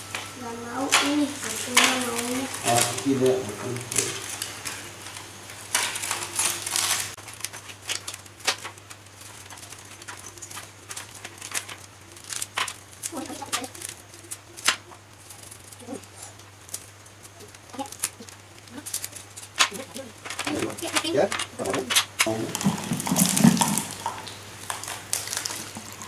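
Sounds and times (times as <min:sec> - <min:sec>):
low steady hum: 0:00.0 - 0:26.0
hands tearing roast meat: 0:01.5 - 0:26.0.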